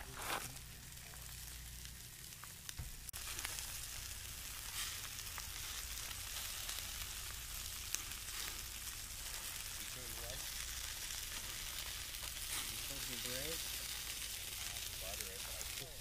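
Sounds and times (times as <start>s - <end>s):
chicken sizzling on a grill: 0.0s - 16.0s.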